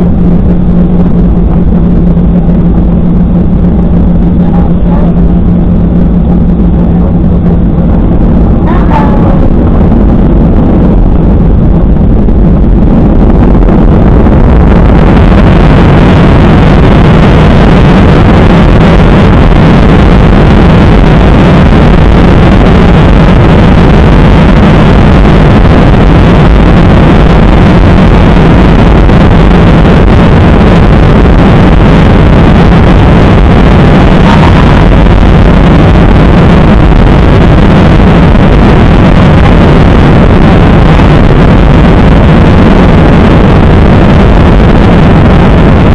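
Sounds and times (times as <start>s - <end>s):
jet engines rumbling in cabin: 0.0s - 45.9s.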